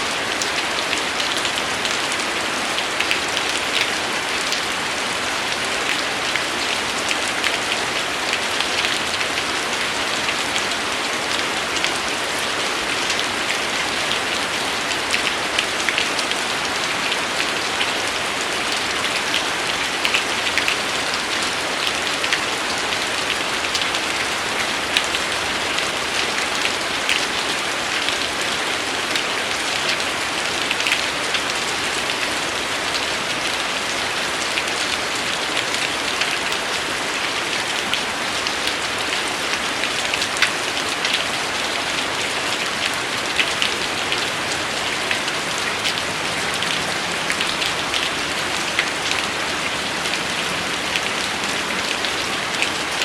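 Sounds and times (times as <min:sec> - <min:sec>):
raindrops ticking on a surface: 0:00.0 - 0:53.0
steady rain hiss: 0:00.0 - 0:53.0.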